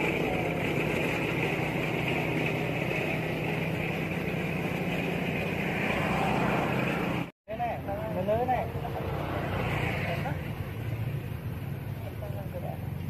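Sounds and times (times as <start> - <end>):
low engine-like hum: 0.0 - 13.0.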